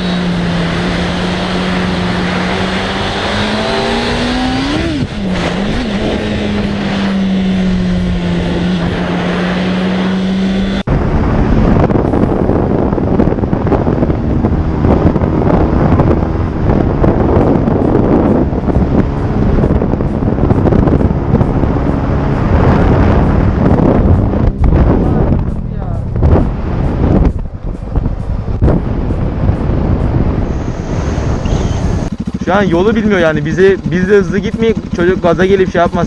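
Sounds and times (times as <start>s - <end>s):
motorcycle engine running: 0.0s - 36.0s
wind buffeting microphone: 0.0s - 36.0s.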